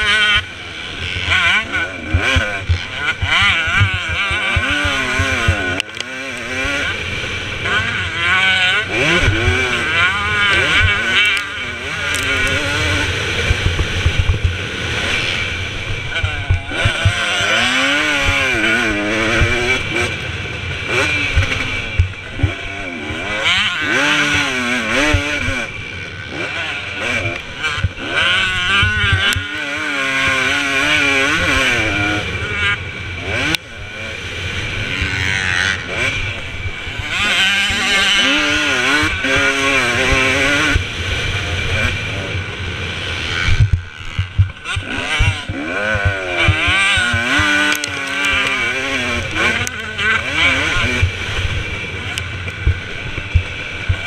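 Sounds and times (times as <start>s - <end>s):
two-stroke motocross engine revving: 0.0s - 54.0s.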